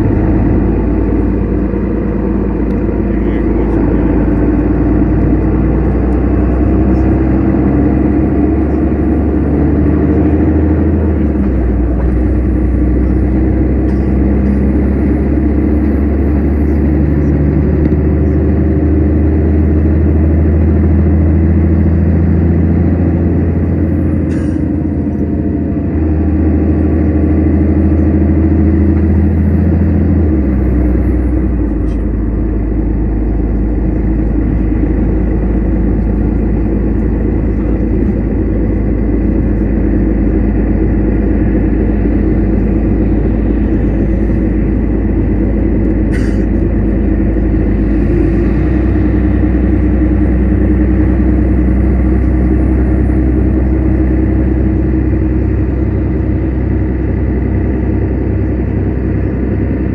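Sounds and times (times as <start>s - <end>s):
bus engine drone: 0.0s - 59.9s
road and tyre noise: 0.0s - 59.9s.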